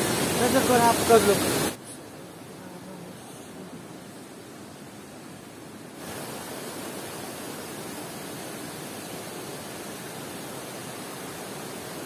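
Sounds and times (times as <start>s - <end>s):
stream rushing over rock ledges: 0.0s - 12.0s.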